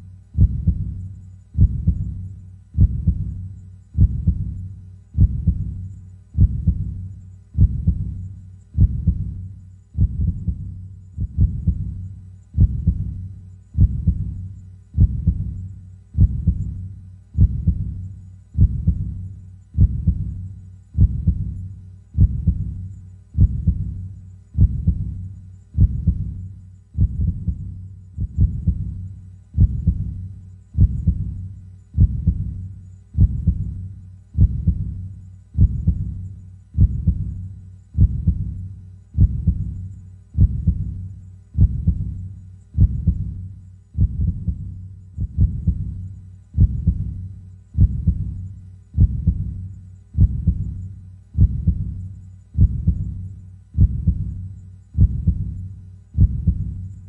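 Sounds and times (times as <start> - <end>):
heartbeat thumps: 0.4 - 57.0.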